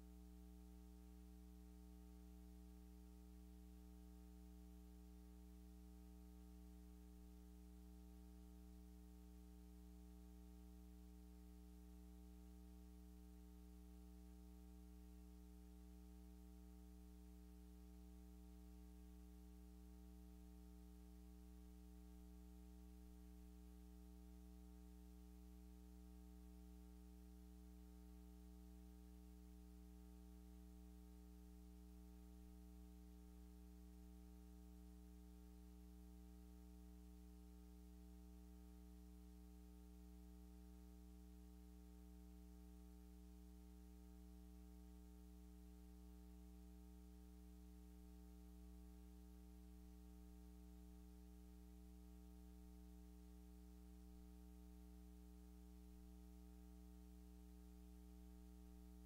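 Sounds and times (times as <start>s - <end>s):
faint electrical hum: 0.0s - 59.0s.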